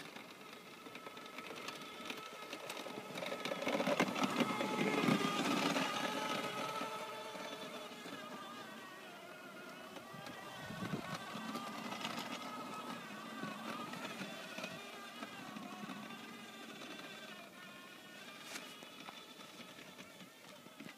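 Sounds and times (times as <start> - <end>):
small ride-on quad motor whining: 0.0 - 20.9.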